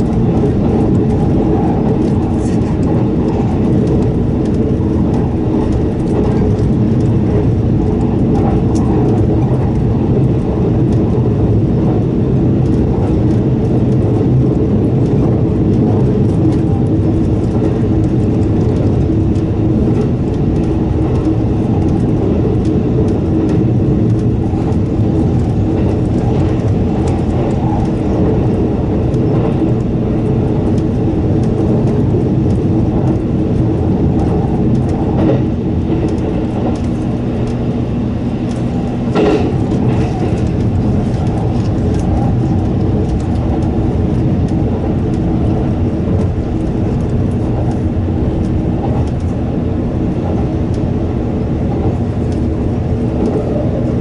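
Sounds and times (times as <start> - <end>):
steady low hum: 0.0 - 54.0
train wheels rumbling: 0.0 - 54.0.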